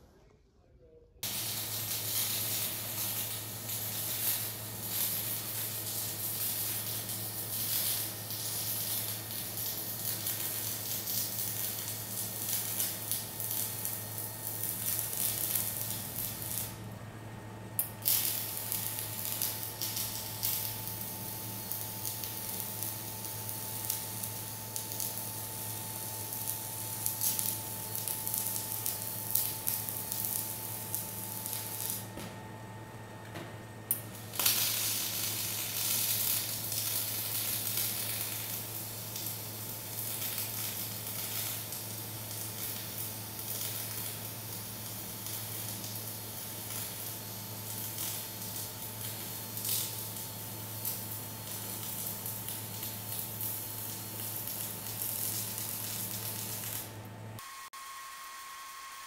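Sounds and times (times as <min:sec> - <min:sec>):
arc welding crackling sizzle: 0:01.2 - 0:59.0.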